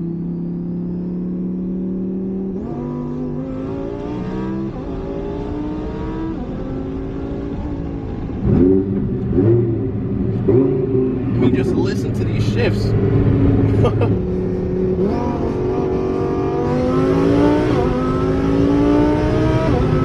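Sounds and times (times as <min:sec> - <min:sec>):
car engine accelerating with gear shifts: 0:00.0 - 0:20.0.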